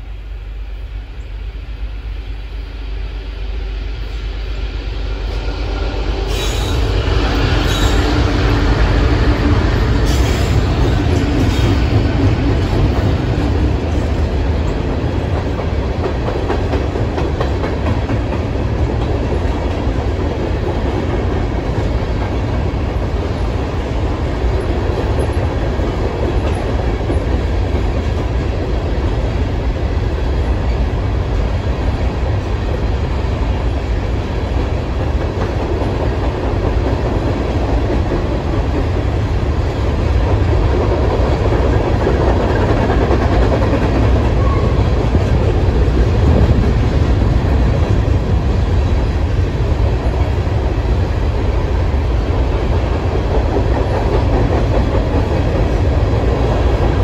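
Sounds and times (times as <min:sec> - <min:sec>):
freight train rumbling over bridge: 0:00.0 - 0:57.0.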